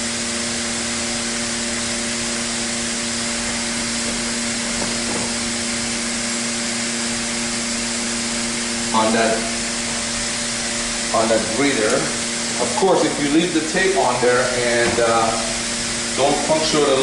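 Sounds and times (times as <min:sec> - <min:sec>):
ventilation fans hissing and humming: 0:00.0 - 0:17.0.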